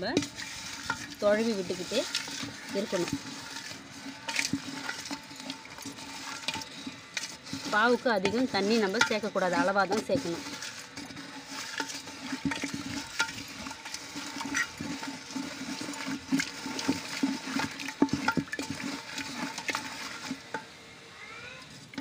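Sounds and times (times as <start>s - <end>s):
stick knocking and scraping pot: 0.0s - 20.8s
liquid sloshing in a pot: 0.0s - 20.9s, 21.6s - 22.0s.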